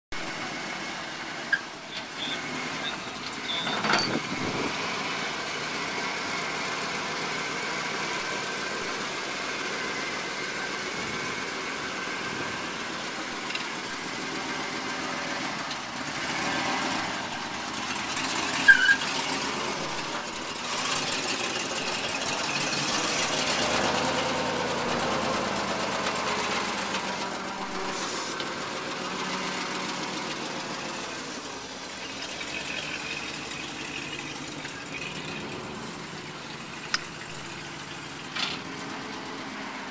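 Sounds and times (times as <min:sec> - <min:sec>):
truck engine idling: 0:00.1 - 0:39.9.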